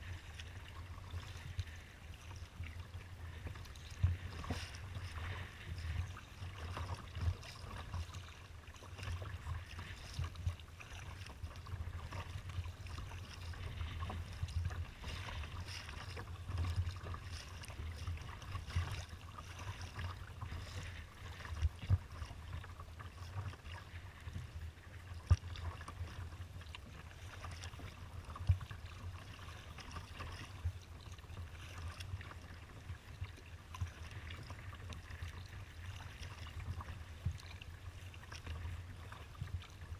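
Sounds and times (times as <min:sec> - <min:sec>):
water splashing against kayak hull: 0:00.0 - 0:39.9.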